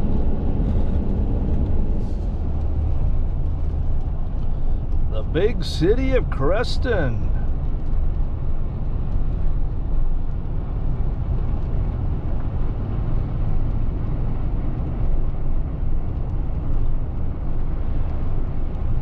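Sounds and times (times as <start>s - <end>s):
tyres on wet road: 0.0s - 19.0s
vehicle road and engine noise: 0.0s - 19.0s.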